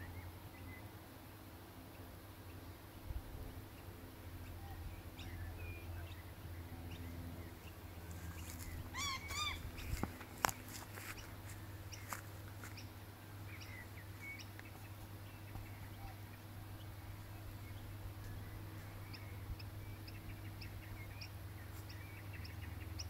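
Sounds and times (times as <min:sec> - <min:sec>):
wild birds chirping and whistling: 0:03.8 - 0:23.0.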